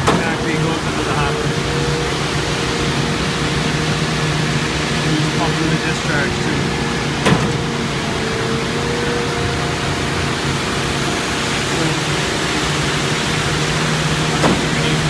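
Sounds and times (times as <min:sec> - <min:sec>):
concrete pump running: 0:00.0 - 0:15.0.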